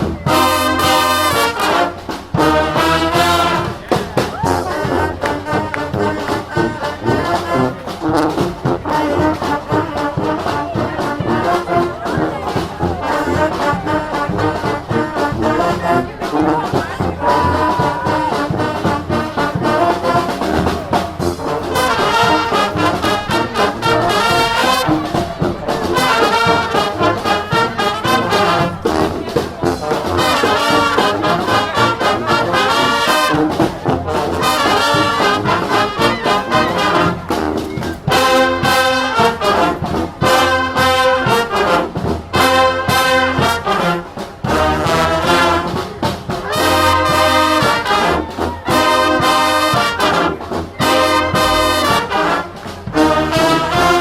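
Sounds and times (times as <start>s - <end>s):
drums keeping a steady beat: 0.0s - 54.0s
trombones and trumpets: 0.0s - 54.0s.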